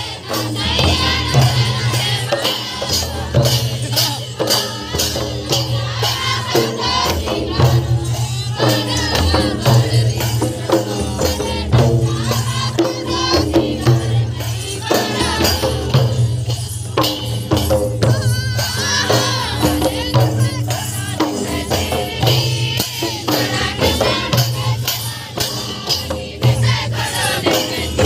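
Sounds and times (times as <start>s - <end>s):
drum beating steady rhythm: 0.0s - 28.0s
group singing: 0.0s - 28.0s.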